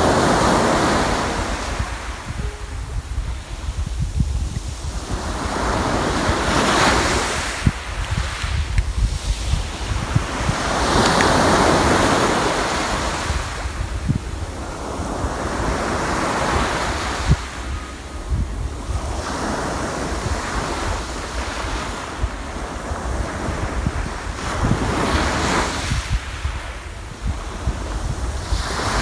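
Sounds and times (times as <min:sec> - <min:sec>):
sea waves breaking on shore: 0:00.0 - 0:29.0
wind buffeting microphone: 0:00.0 - 0:29.0.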